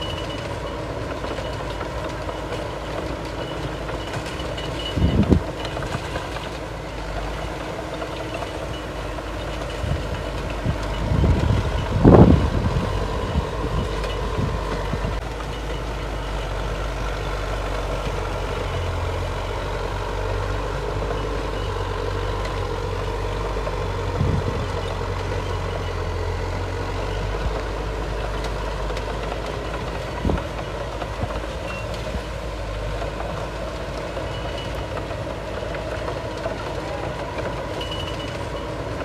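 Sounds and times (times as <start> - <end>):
diesel earthmoving machinery rumbling: 0.0 - 39.0.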